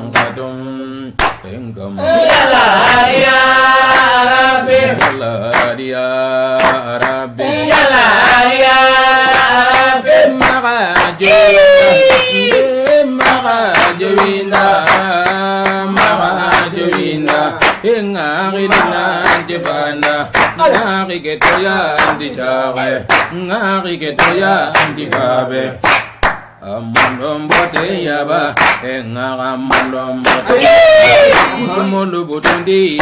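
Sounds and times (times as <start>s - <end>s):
hand clapping: 0.0s - 0.5s, 1.2s - 1.5s, 2.2s - 5.9s, 6.6s - 17.9s, 18.6s - 22.4s, 23.0s - 23.4s, 24.2s - 29.0s, 29.6s - 31.8s, 32.4s - 33.0s
voices singing a chant: 0.0s - 25.9s, 26.6s - 33.0s.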